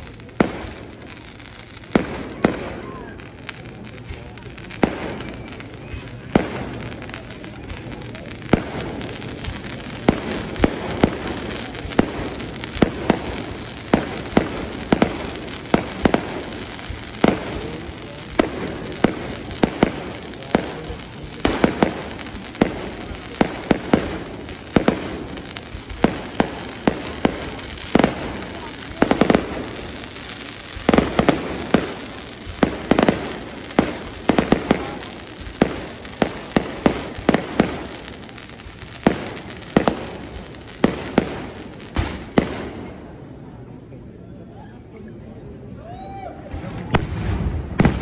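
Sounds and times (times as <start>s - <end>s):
fireworks bangs: 0.0s - 43.9s, 46.4s - 48.0s
steady background noise: 0.0s - 48.0s.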